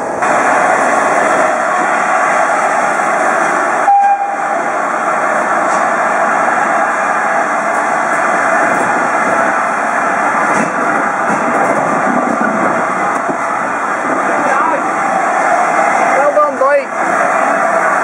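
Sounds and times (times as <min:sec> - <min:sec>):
loud rushing train noise: 0:00.0 - 0:18.0.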